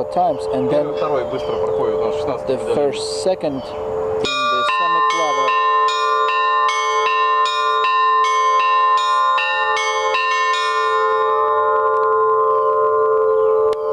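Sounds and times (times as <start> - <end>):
church bells ringing: 0.0 - 13.9.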